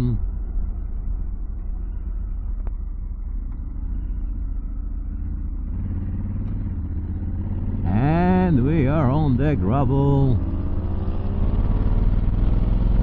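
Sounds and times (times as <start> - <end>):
motorcycle engine running: 0.0 - 13.0
road and wind rumble: 0.0 - 13.0.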